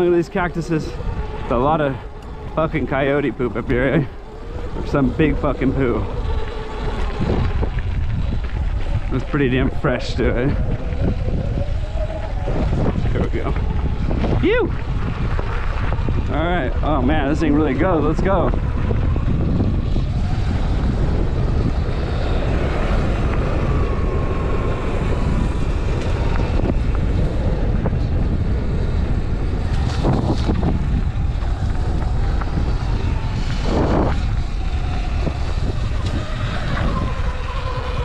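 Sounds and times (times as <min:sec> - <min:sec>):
electric motor whine: 0:00.0 - 0:38.0
wind buffeting microphone: 0:00.0 - 0:38.0.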